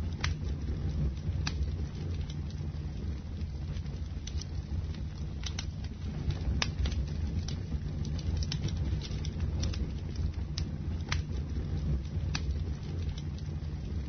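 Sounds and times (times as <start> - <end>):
bonfire low rumble: 0.0 - 14.0
burning wood crackling and popping: 0.0 - 14.0.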